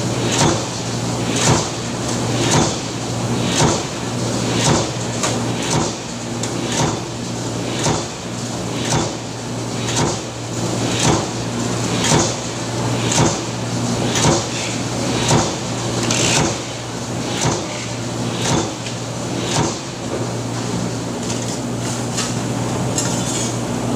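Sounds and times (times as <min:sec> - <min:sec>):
press machine stamping: 0:00.2 - 0:20.1.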